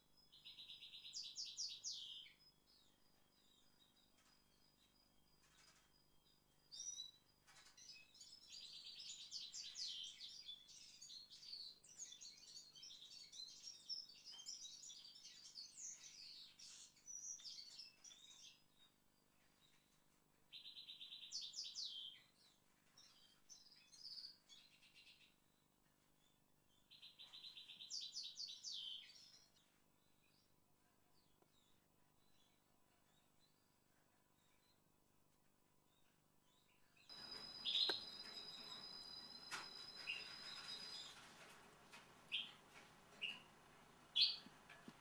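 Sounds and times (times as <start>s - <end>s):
faint songbird song: 0.0s - 45.0s.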